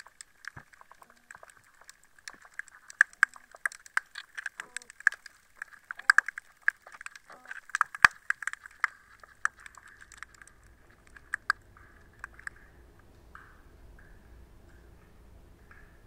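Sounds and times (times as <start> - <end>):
underwater clicks and snaps: 0.0 - 14.9
faint low hum: 0.0 - 16.0.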